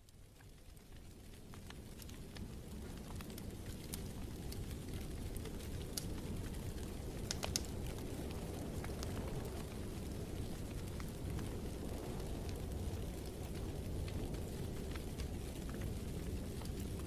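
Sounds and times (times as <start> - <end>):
low rumble of burning: 0.0 - 17.0
wood fire crackling: 0.0 - 17.0.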